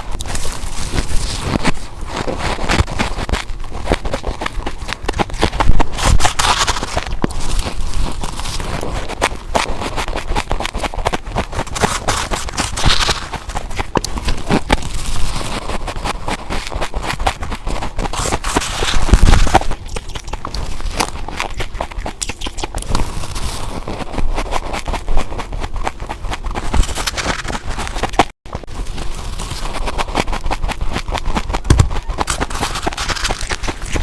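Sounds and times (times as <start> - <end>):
ice being crunched: 0.1 - 10.0, 10.8 - 23.8, 26.5 - 34.0.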